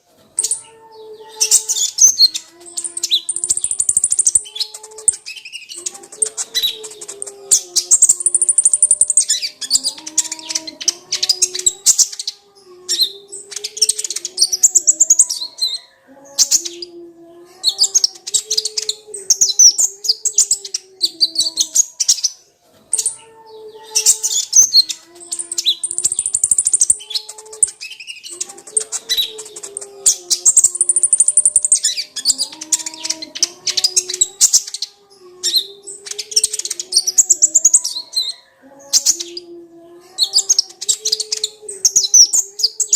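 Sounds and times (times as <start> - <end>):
sunbird chattering song: 0.4 - 17.0, 17.7 - 39.5.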